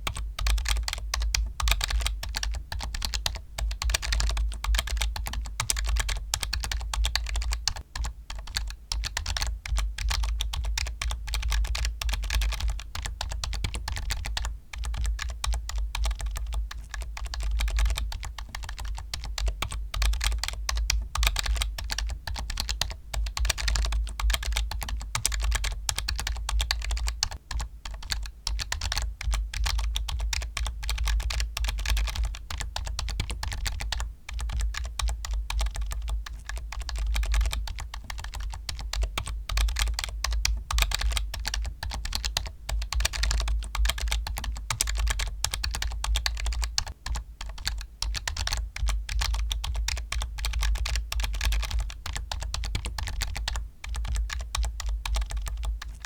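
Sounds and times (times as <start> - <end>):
fast keyboard typing: 0.0 - 56.0.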